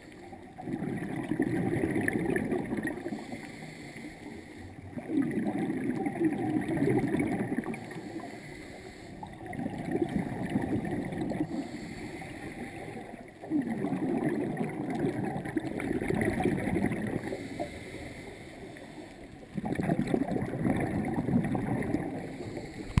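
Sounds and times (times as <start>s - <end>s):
regulator bubbles gurgling underwater: 0.0s - 23.0s.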